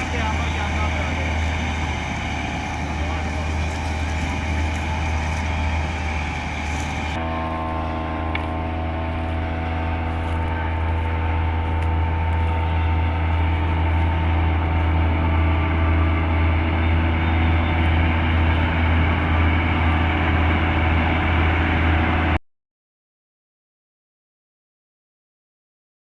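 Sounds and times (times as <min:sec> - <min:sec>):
combine harvester droning: 0:00.0 - 0:22.4.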